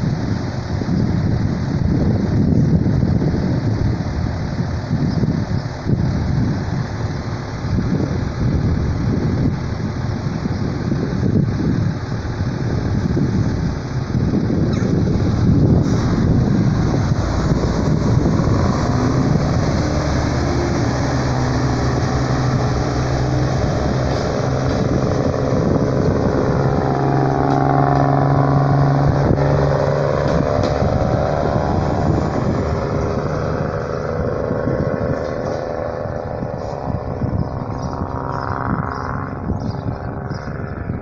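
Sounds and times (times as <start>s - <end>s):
train diesel engines under load: 0.0s - 41.0s
wheel and rail noise: 0.0s - 41.0s.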